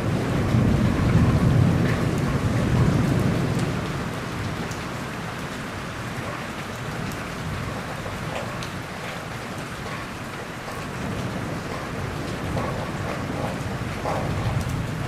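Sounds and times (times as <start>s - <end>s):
heavy rain: 0.0s - 15.0s
thunder rumble: 0.0s - 15.0s.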